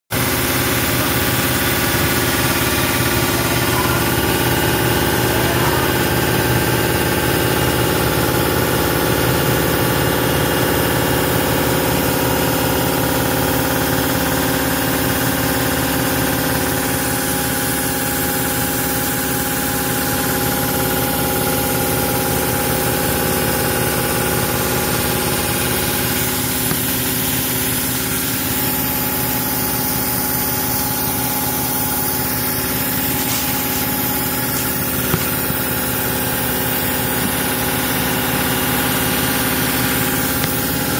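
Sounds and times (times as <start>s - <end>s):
industrial machinery drone: 0.1s - 40.9s.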